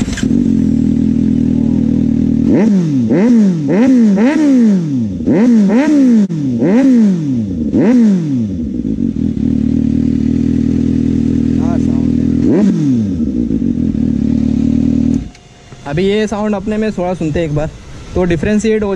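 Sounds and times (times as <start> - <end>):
motorcycle engine idling and revving: 0.0 - 18.9.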